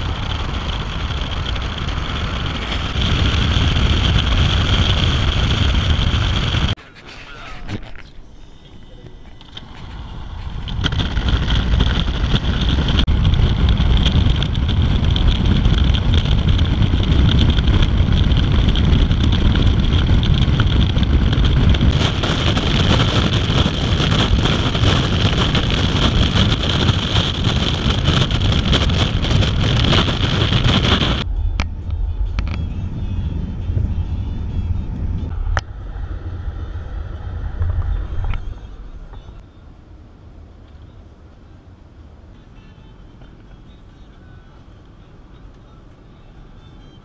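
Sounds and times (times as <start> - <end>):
wind blowing over microphone: 0.0 - 6.8, 9.0 - 40.6
road noise: 0.0 - 47.0.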